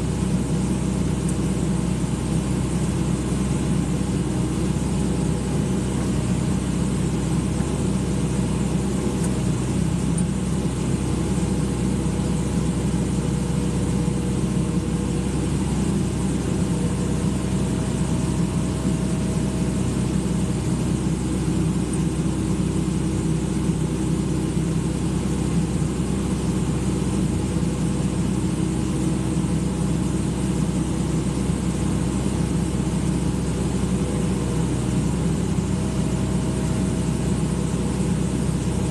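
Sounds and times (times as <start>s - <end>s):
large diesel engine running: 0.0s - 38.9s.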